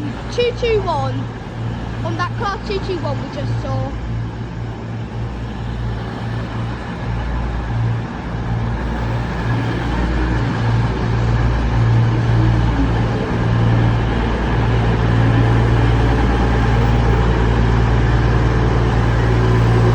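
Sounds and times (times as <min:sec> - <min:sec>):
diesel train engine drone: 0:00.0 - 0:19.9.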